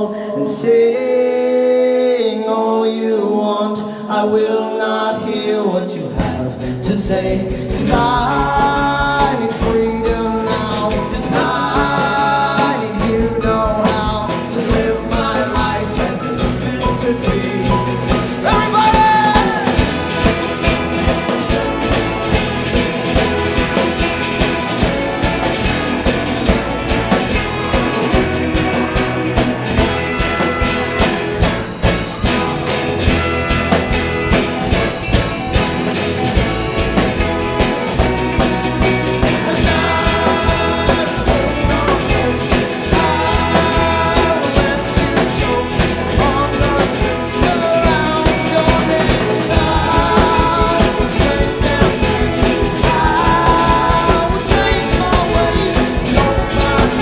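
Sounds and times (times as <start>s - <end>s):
folk-rock band playing: 0.0s - 57.0s
voices singing: 0.0s - 57.0s
driving drum beat: 6.1s - 57.0s.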